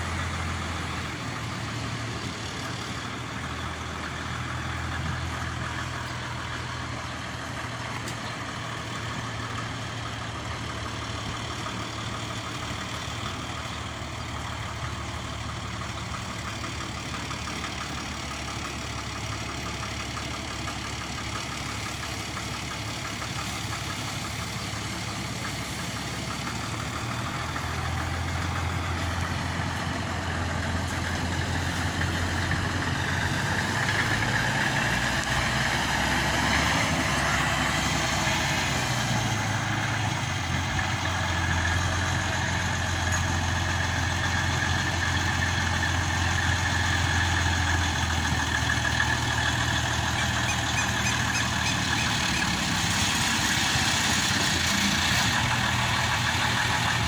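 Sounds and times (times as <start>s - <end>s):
truck engine running slowly: 0.0s - 57.0s.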